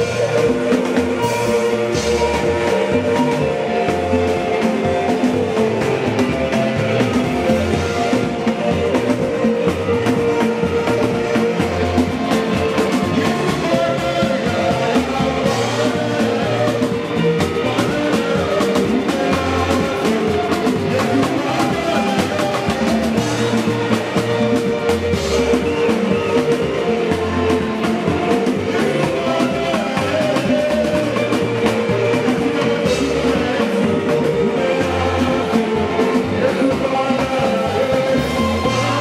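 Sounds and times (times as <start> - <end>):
live band playing dance music: 0.0 - 39.0
person singing: 0.0 - 39.0.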